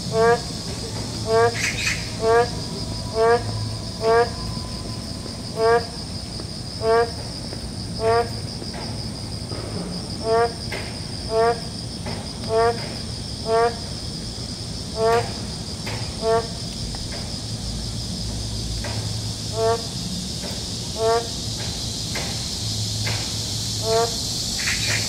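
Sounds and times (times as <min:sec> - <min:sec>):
frogs croaking: 0:00.0 - 0:25.0
high-pitched insect trill: 0:00.0 - 0:25.0.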